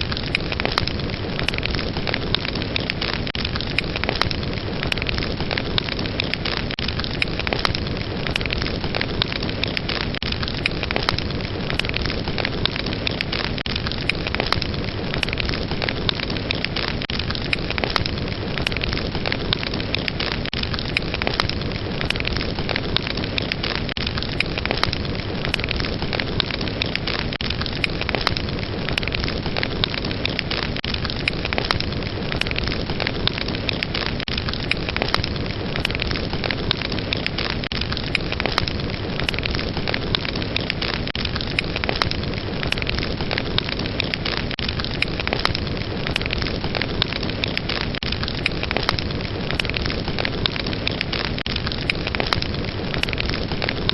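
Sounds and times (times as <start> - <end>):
fire crackling: 0.0 - 53.9.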